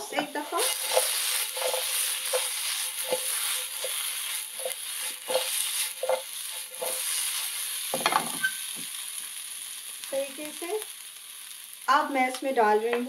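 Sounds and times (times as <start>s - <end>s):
food sizzling in hot oil: 0.0s - 13.0s
stirring strokes in pan: 0.2s - 11.9s.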